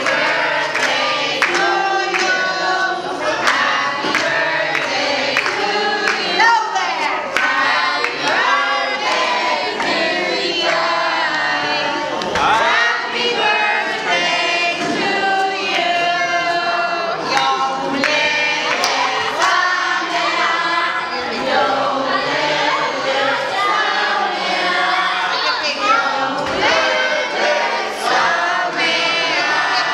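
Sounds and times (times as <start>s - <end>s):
group of people singing: 0.0s - 29.9s.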